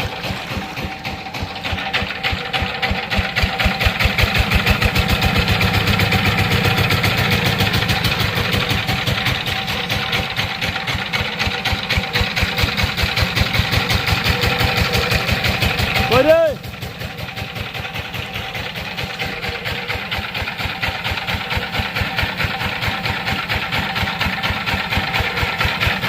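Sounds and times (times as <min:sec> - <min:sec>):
diesel engine chugging: 0:00.0 - 0:26.0.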